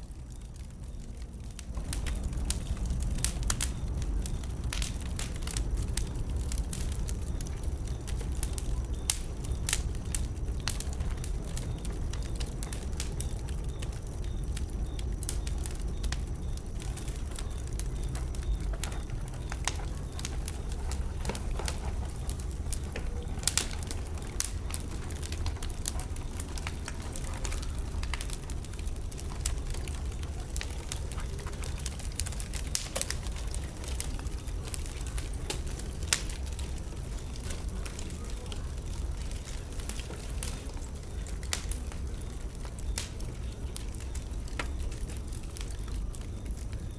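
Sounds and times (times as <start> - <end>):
bonfire crackling and popping: 0.0 - 46.9.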